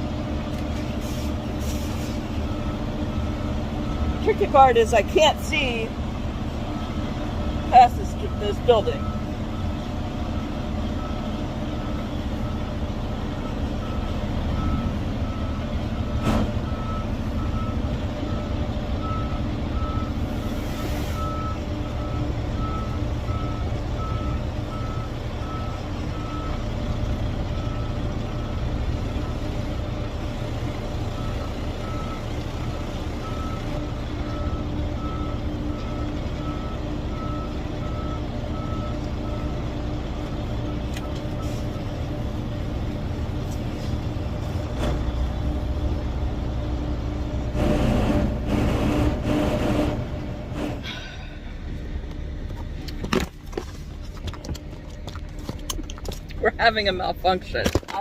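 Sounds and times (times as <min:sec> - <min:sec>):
diesel engine rumble: 0:00.0 - 0:58.0.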